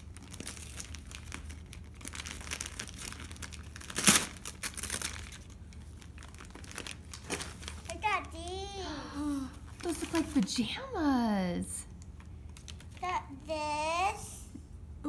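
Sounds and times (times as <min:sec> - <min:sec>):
gift wrapping crinkling: 0:00.0 - 0:13.1.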